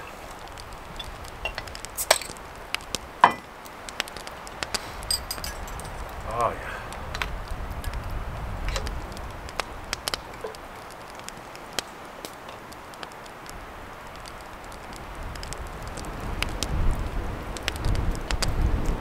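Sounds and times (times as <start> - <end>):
sharp crackles: 0.0 - 19.0.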